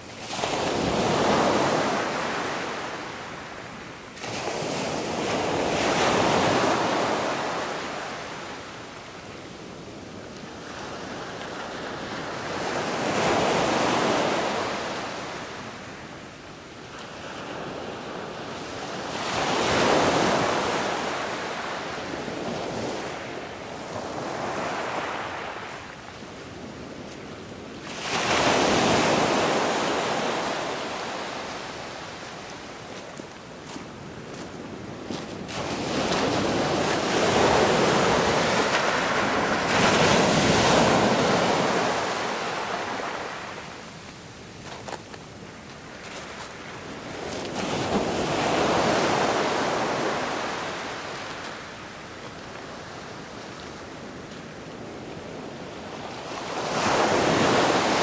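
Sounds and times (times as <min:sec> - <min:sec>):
ocean surf washing ashore: 0:00.0 - 0:58.0.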